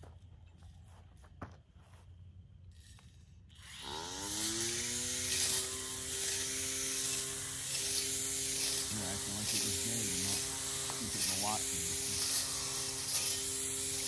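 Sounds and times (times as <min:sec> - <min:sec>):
weed eater motor whining: 0:02.7 - 0:14.0.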